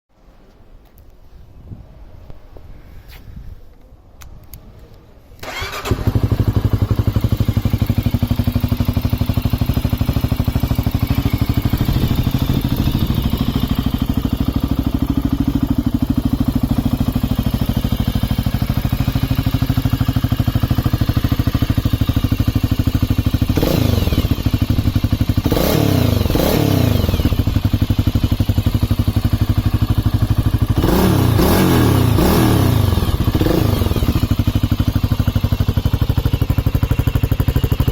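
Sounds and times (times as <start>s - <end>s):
motorcycle engine starting and idling: 5.3s - 37.9s.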